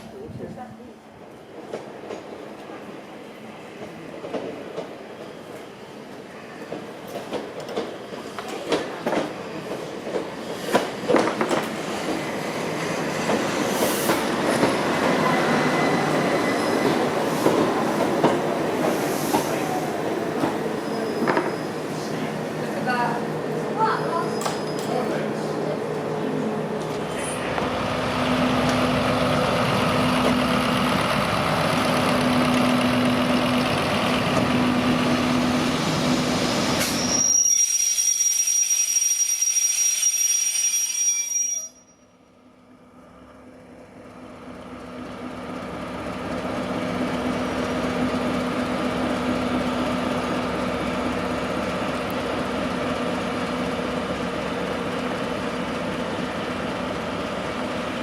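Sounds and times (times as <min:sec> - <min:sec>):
train rumbling on rails: 0:00.0 - 0:37.8, 0:42.6 - 0:58.0.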